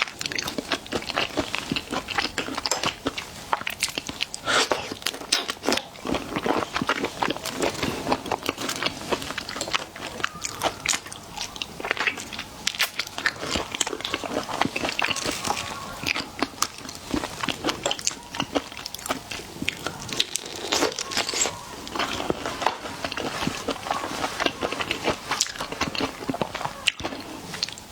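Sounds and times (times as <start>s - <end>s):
crunchy bites and wet chewing: 0.0s - 27.9s.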